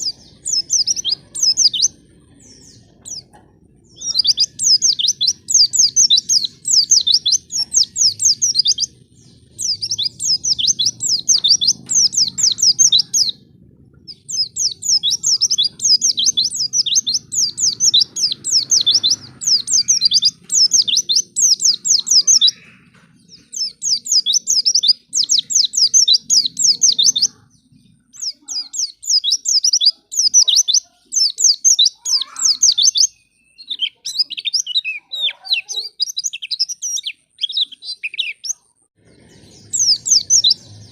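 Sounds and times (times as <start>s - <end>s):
bird singing chattering phrases: 0.0s - 40.9s.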